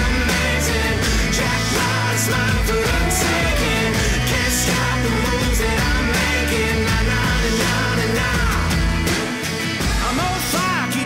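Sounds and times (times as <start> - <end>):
pop-rock song with singer: 0.0 - 11.0.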